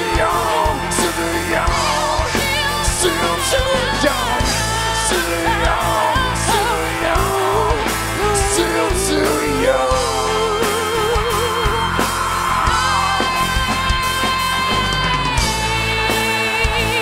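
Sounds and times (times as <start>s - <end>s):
drums: 0.0s - 17.0s
woman singing: 0.0s - 17.0s.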